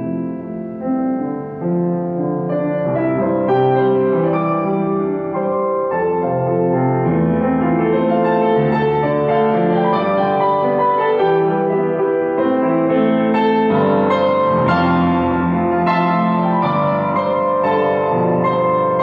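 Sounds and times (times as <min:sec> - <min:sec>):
upright piano playing: 0:00.0 - 0:19.0.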